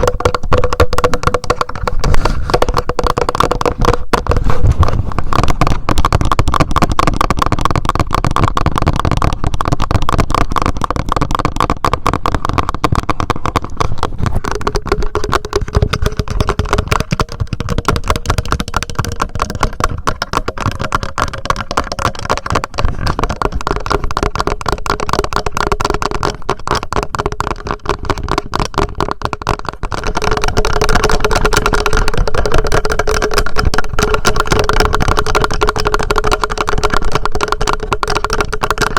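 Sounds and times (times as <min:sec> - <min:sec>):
fingertip tapping on recorder: 0:00.0 - 0:06.3, 0:13.0 - 0:38.9.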